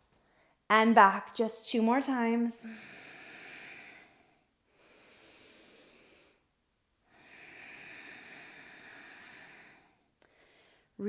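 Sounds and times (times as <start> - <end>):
woman breathing: 0.0 - 0.7, 2.6 - 11.0.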